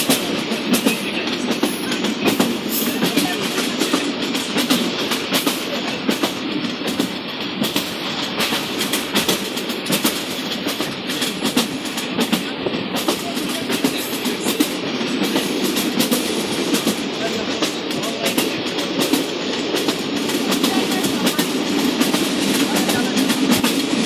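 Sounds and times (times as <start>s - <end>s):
train rumble with wheel clatter: 0.0s - 24.0s.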